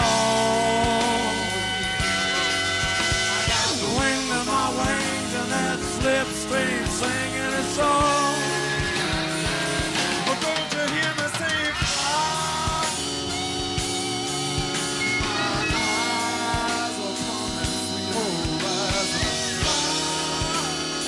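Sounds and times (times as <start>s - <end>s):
lead guitar bending notes: 0.0s - 10.9s, 11.8s - 21.0s
bass: 0.0s - 21.0s
keyboards: 0.0s - 21.0s
steady drum beat: 0.0s - 21.0s.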